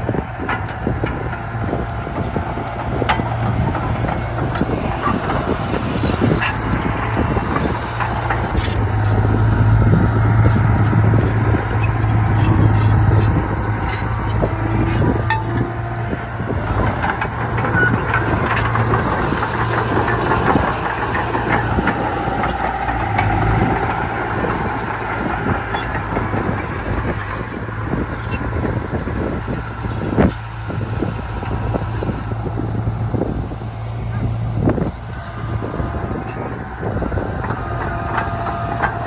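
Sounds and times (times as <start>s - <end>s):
diesel earthmoving machinery running: 0.0s - 39.0s
metallic clanks and squeaks: 0.1s - 32.5s, 33.9s - 39.0s.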